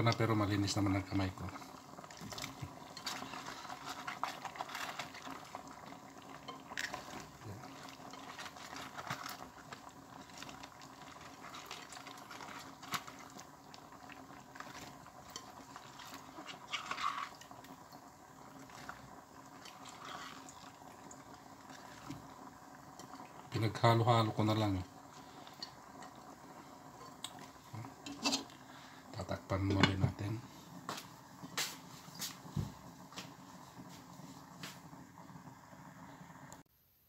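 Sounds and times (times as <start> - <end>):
broth simmering and bubbling: 0.0 - 36.7.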